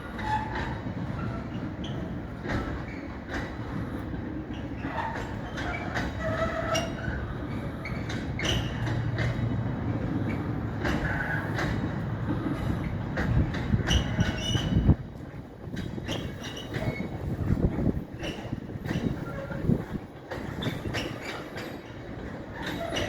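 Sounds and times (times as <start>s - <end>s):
wheel squeals: 0.0s - 3.9s, 4.5s - 9.5s, 10.1s - 23.0s
train rolling on rails: 0.0s - 23.0s
wheel clicks over rail joints: 0.1s - 23.0s.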